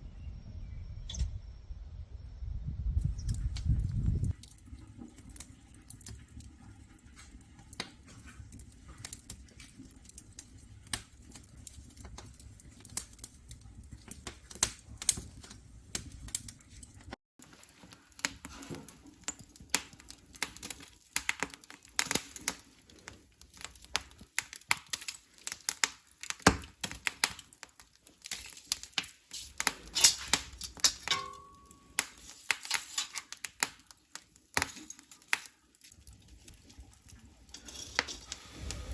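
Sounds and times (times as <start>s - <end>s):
wood fire crackling and popping: 3.1s - 38.9s.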